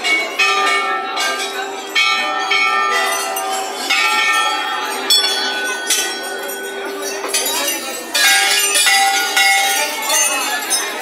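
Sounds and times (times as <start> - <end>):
brass bells ringing: 0.0 - 11.0.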